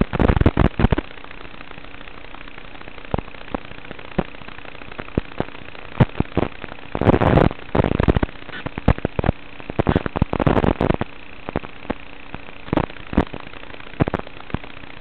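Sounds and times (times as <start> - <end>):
dense static crackling: 0.0 - 15.0
sharp static pops: 0.0 - 15.0
static hiss: 0.0 - 15.0.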